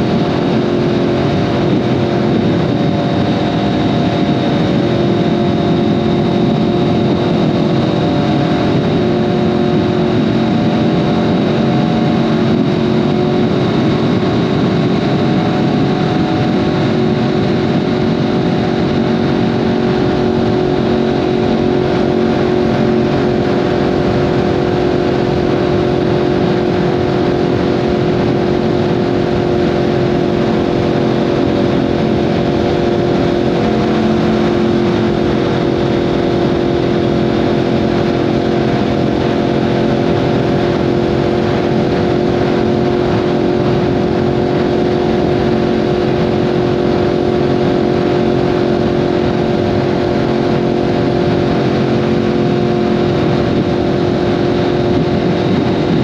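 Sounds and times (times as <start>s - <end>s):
motorcycle engine at steady revs: 0.0s - 56.0s
wind and road noise: 0.0s - 56.0s.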